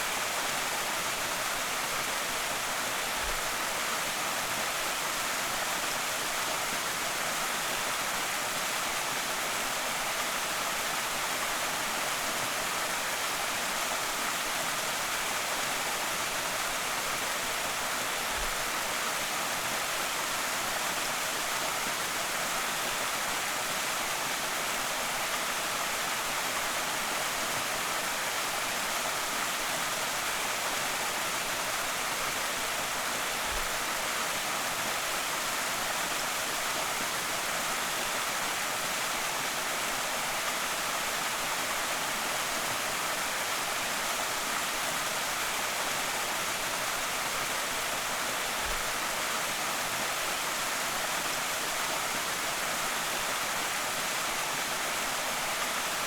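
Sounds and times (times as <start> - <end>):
waterfall rushing over rock: 0.0 - 56.0.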